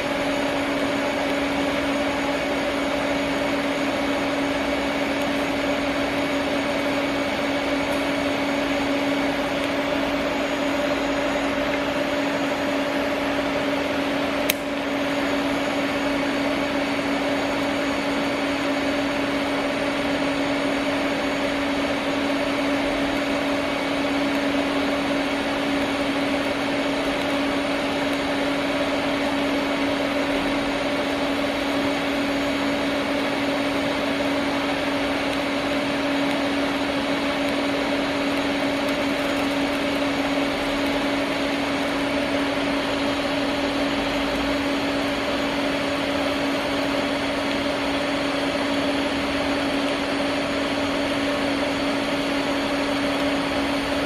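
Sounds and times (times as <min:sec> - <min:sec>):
welding arc buzzing and hissing: 0:00.0 - 0:54.0.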